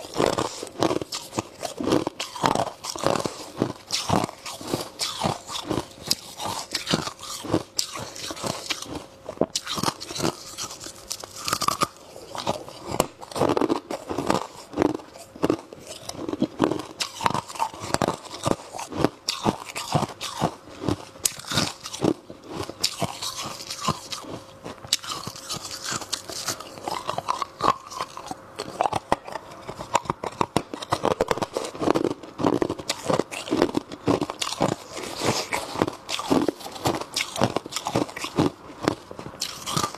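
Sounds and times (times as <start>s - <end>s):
crisp crunching of chewed frost: 0.0s - 39.9s.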